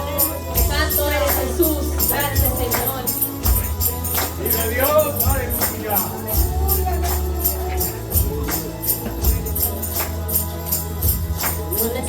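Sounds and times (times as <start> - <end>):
bright high percussion beat: 0.0 - 12.0
live band playing: 0.0 - 12.0.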